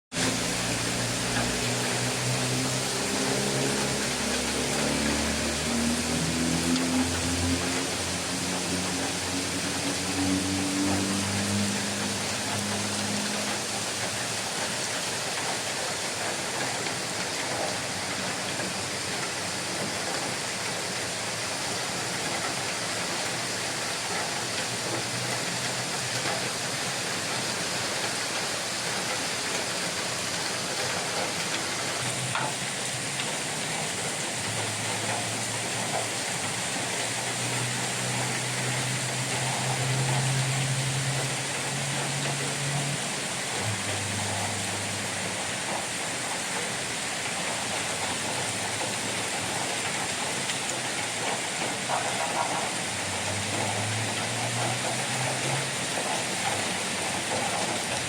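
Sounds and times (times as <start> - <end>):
steady rain falling: 0.1 - 58.0.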